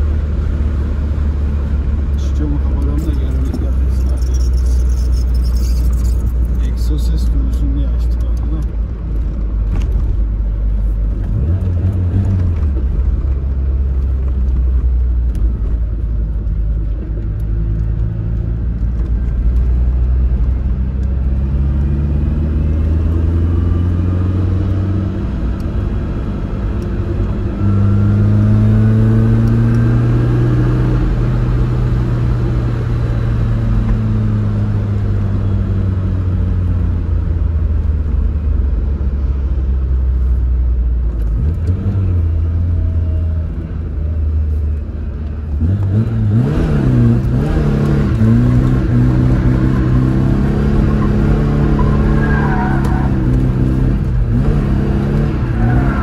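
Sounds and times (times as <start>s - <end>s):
car engine revving: 0.0s - 14.7s, 17.7s - 38.8s, 44.2s - 56.0s.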